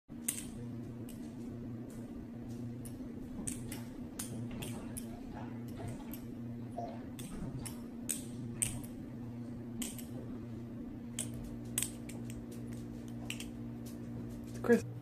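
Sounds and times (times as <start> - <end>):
low hum: 0.1 - 15.0.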